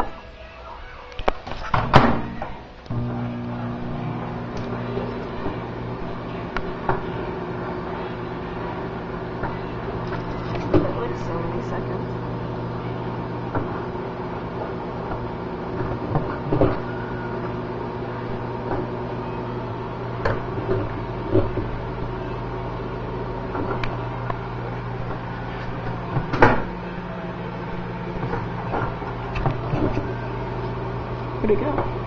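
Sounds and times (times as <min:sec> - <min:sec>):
microwave oven humming: 0:00.0 - 0:32.0.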